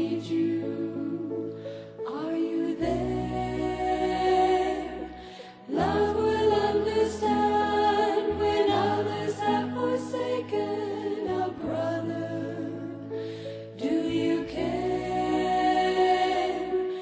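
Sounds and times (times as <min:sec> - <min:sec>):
slow song with voices singing: 0:00.0 - 0:17.0.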